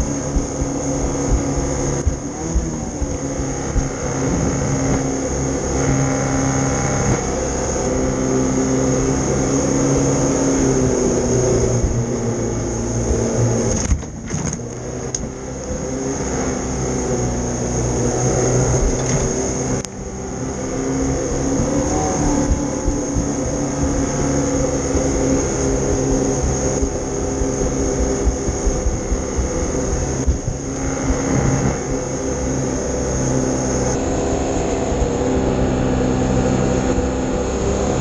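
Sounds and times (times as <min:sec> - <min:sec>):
boat engine running hard: 0:00.0 - 0:38.0
water rushing under hull: 0:00.0 - 0:38.0.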